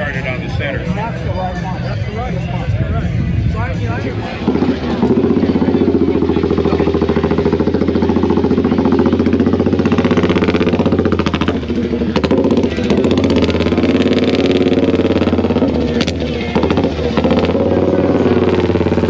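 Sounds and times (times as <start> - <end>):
motorcycle engine running loudly: 0.0 - 19.0.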